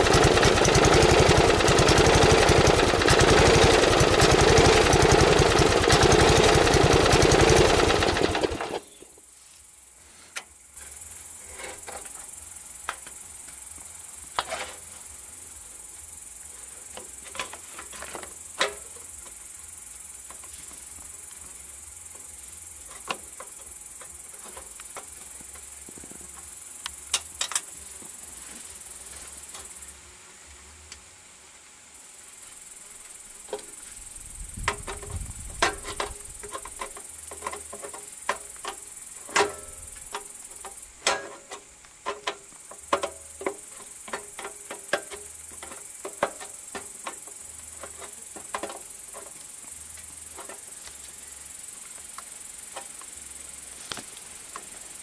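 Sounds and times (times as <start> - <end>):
steady high hiss: 7.8 - 55.0.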